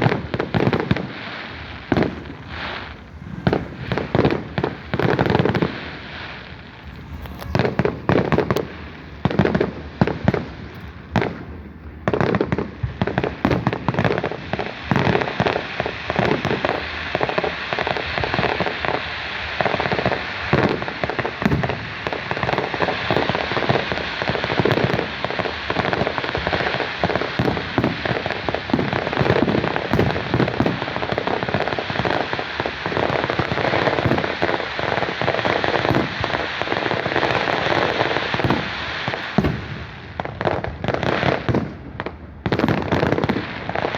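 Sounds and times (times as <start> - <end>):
fireworks banging: 0.0 - 43.9
fireworks crackling: 0.0 - 43.9.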